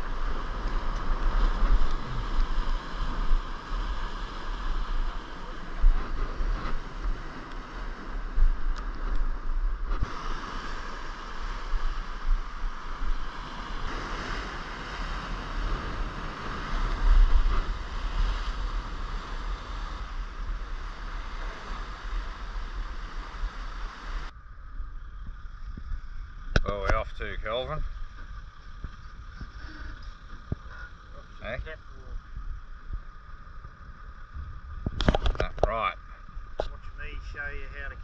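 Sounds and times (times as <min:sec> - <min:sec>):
sea surf against rocks: 0:00.0 - 0:38.0.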